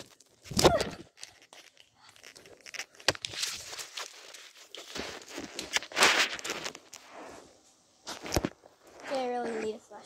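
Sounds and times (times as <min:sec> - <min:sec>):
rustling and crinkling handling: 0:00.0 - 0:10.0.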